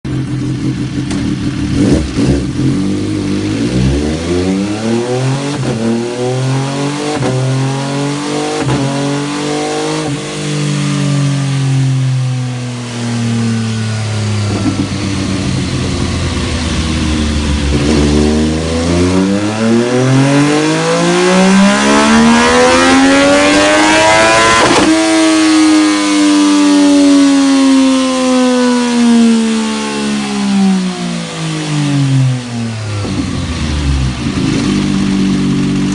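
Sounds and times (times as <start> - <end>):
motorcycle engine revving: 0.1 - 35.9.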